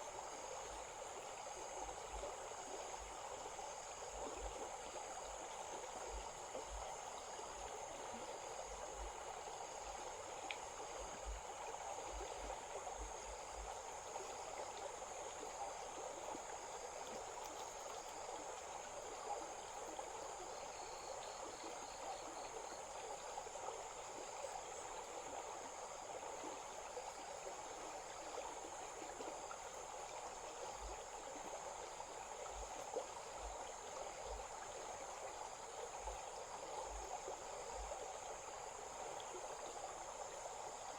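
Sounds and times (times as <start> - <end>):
high insect drone: 0.0 - 40.9
stream running: 0.0 - 40.9.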